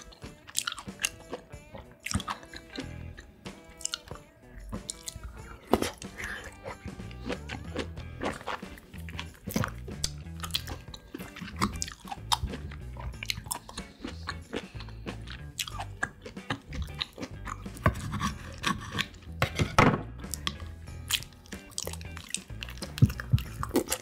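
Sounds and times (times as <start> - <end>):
soft background music: 0.0 - 24.0
wet chewing and crunching: 0.0 - 24.0.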